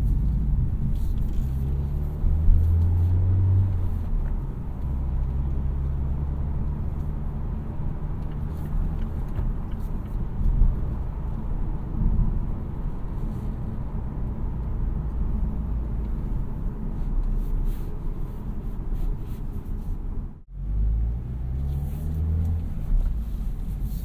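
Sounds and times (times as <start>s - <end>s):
car engine droning: 0.0s - 24.0s
tyre and road noise: 0.0s - 24.0s.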